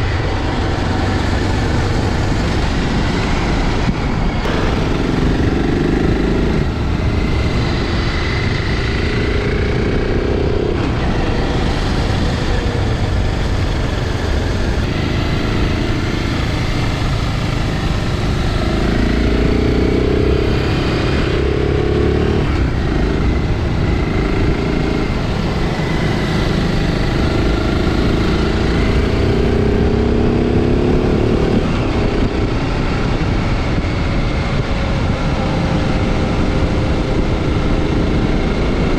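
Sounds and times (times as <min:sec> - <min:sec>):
motorcycle engine running: 0:00.0 - 0:38.9
wind and road rumble: 0:00.0 - 0:38.9.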